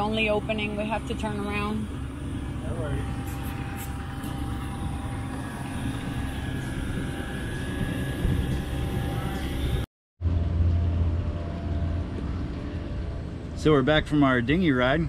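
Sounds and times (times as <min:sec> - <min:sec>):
faint steady whine: 0:00.0 - 0:15.0
outboard motor running: 0:00.0 - 0:15.0.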